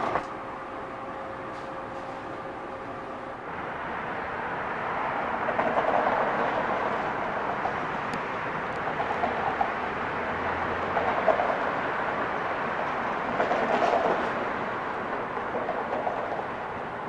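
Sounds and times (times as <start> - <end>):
train clanks: 0.0 - 0.5, 1.3 - 3.0, 5.2 - 17.0
train wheels on rail: 0.0 - 17.0.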